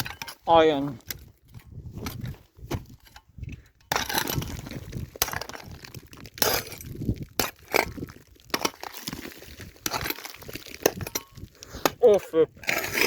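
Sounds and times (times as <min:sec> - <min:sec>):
scrap metal clinking and clanking: 0:00.0 - 0:09.0, 0:09.8 - 0:11.5
debris crunching: 0:00.0 - 0:13.0.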